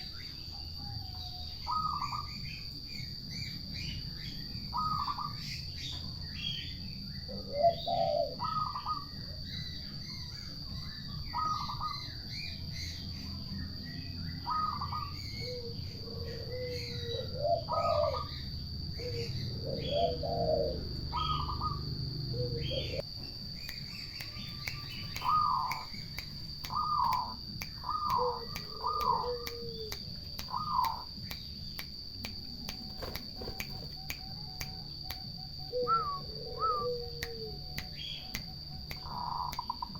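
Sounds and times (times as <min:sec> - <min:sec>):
small birds chirping: 0:00.0 - 0:39.9
turtle doves calling: 0:00.0 - 0:39.9.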